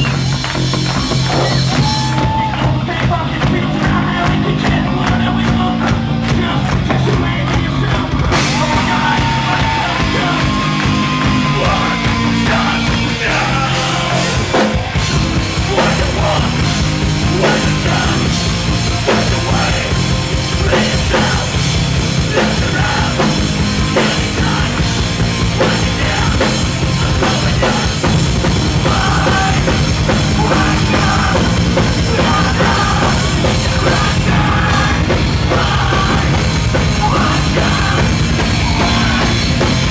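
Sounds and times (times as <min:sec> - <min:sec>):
bass guitar: 0:00.0 - 0:39.9
drum kit with cymbals: 0:00.0 - 0:39.9
electric guitar: 0:00.0 - 0:39.9.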